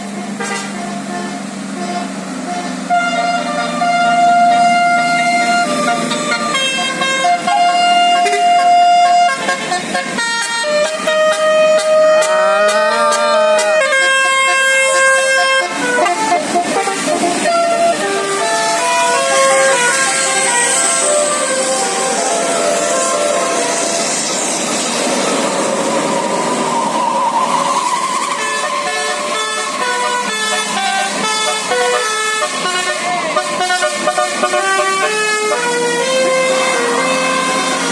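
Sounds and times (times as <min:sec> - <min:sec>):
multi-tone bus horn melody: 0:00.0 - 0:24.9, 0:26.8 - 0:37.9
loud noisy rush: 0:01.4 - 0:37.9.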